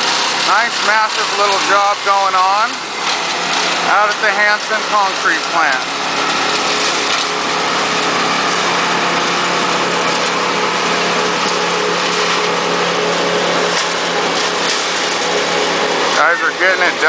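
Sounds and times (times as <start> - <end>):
machine engines droning: 0.0 - 17.0.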